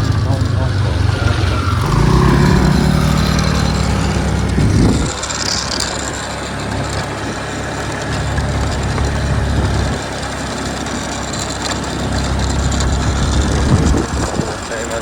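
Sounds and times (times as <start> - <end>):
motorbike engine running: 0.0 - 15.0
wind and road noise: 0.0 - 15.0.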